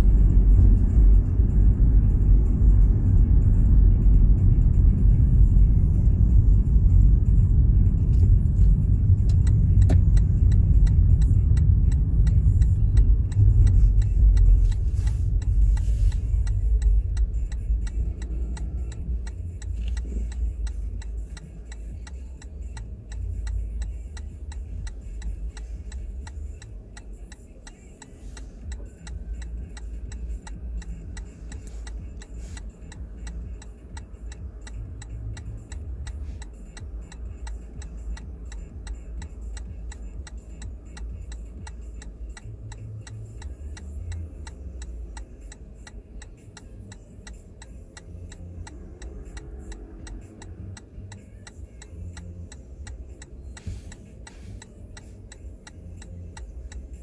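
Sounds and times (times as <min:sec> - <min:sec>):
car engine and road rumble: 0:00.0 - 0:57.0
turn signal ticking: 0:00.0 - 0:57.0.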